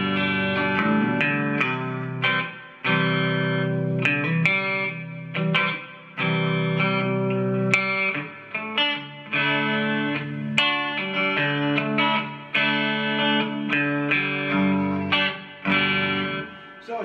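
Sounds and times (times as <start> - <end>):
clean electric guitar strumming chords: 0.0 - 17.0.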